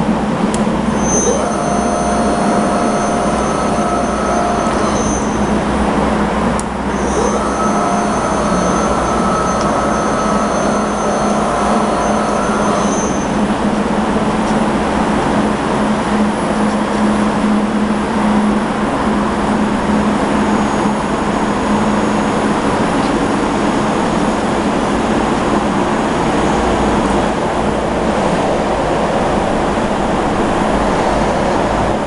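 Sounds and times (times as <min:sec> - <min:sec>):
low tone: 0:00.0 - 0:32.0
milling machine humming: 0:00.0 - 0:32.0.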